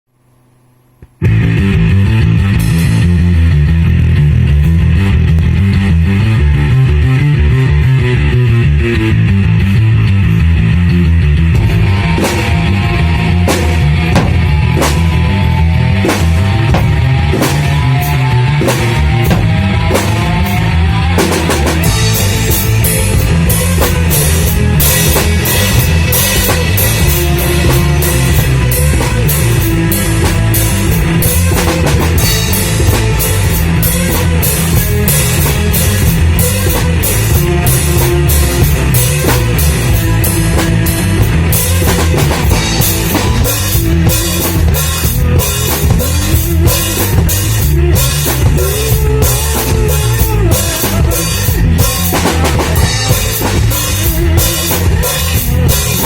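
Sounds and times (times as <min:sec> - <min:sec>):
loud rock music: 0:01.2 - 0:56.0.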